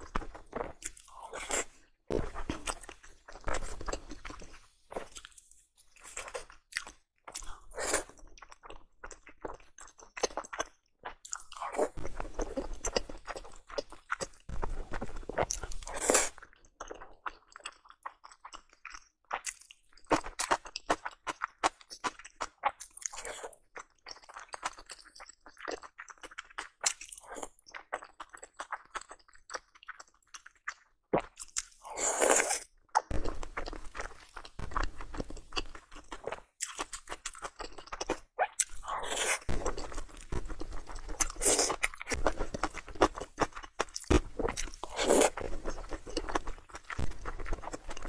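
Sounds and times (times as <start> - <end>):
chewing with crunches: 0.0 - 48.0.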